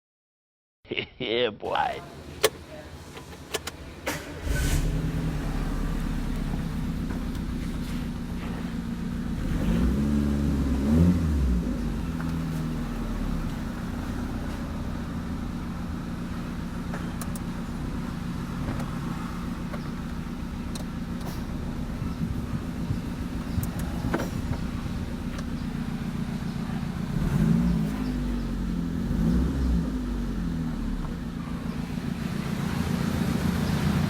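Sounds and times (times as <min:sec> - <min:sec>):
car engine idling and revving: 0:02.0 - 0:34.0.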